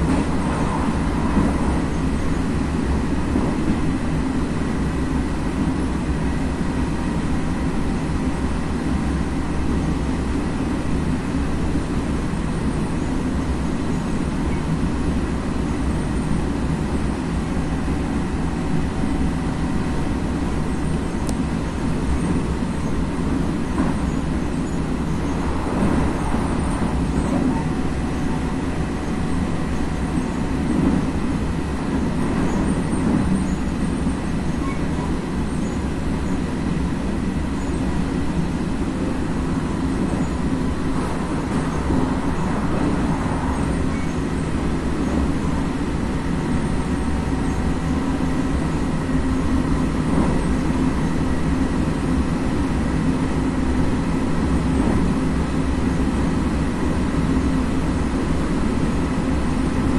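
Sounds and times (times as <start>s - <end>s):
railcar running rumble: 0.0s - 59.9s.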